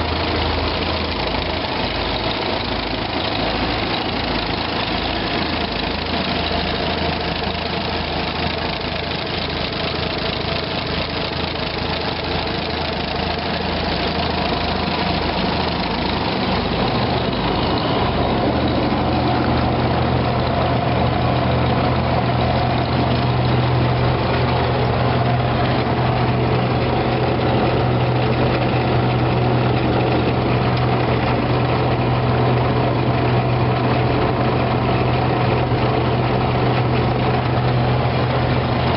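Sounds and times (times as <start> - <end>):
deep steady hum: 0.0 - 38.9
tractor engines running: 0.0 - 38.9.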